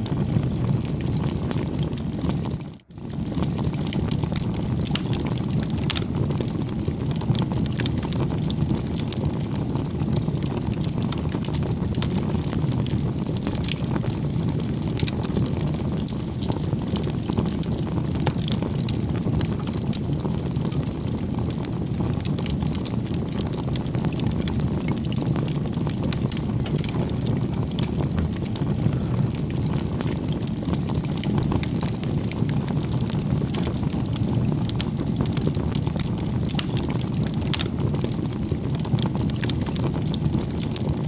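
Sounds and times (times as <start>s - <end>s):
crackling campfire: 0.0s - 41.0s.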